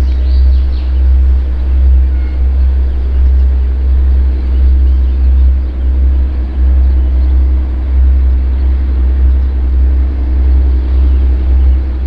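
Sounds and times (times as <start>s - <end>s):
locomotive diesel engine rumble: 0.0s - 12.0s.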